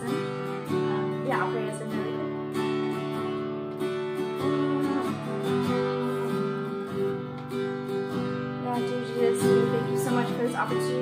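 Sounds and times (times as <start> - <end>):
acoustic guitar strummed slowly: 0.0 - 11.0.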